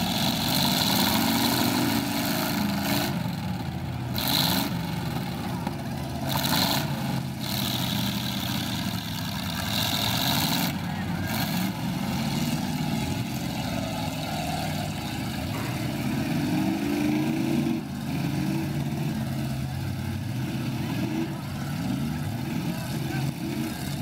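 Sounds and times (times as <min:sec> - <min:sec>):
car engines running: 0:00.0 - 0:24.0
engine revving up: 0:00.0 - 0:24.0.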